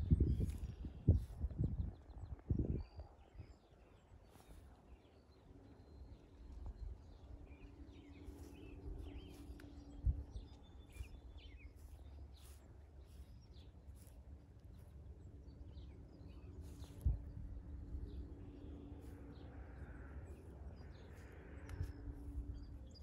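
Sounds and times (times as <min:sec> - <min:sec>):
birds chirping: 0:00.0 - 0:23.0
faint low rumble: 0:00.0 - 0:23.0
steady background hum: 0:00.0 - 0:23.0.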